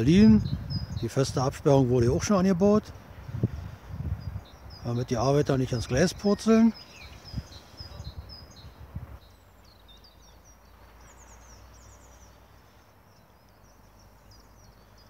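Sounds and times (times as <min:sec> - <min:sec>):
outdoor background noise: 0:00.0 - 0:15.0
songbirds chirping: 0:00.0 - 0:15.0.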